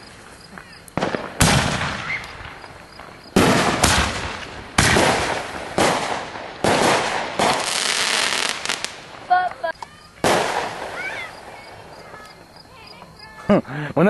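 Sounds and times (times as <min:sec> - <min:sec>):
fireworks bangs echoing: 0:00.0 - 0:13.2.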